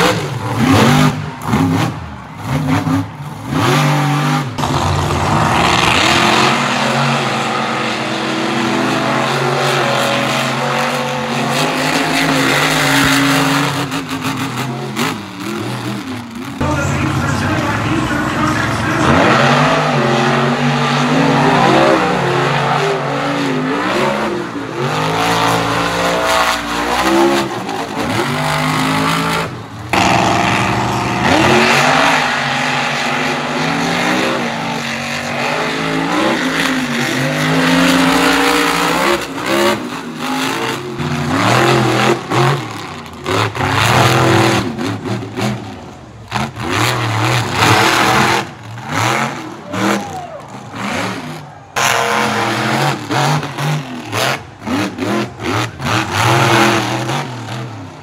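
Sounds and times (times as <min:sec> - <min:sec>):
monster truck engines revving: 0:00.0 - 0:58.0.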